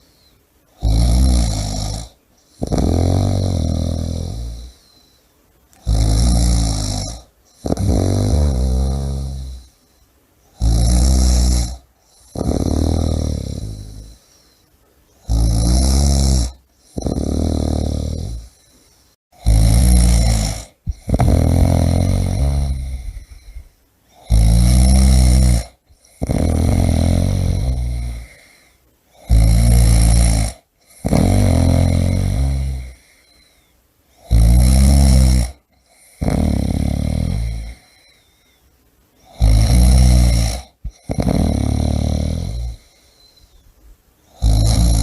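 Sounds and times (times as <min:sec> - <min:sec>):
person snoring: 0:00.0 - 0:09.8, 0:10.5 - 0:14.6, 0:15.2 - 0:33.6, 0:34.2 - 0:38.3, 0:39.2 - 0:43.6, 0:44.3 - 0:45.0.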